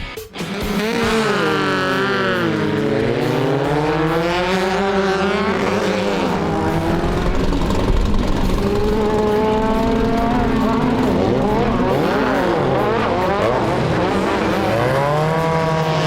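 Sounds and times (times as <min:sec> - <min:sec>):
race vehicle engine revving: 0:00.5 - 0:16.0.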